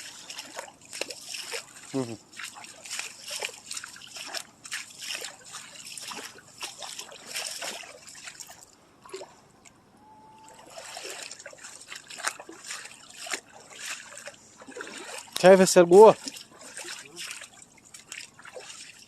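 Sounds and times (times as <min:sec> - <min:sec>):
water trickling and splashing: 0:00.0 - 0:19.0.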